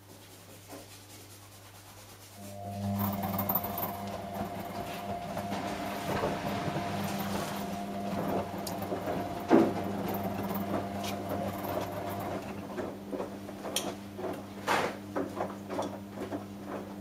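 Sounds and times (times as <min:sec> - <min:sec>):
washing machine motor hum: 0:02.3 - 0:17.0.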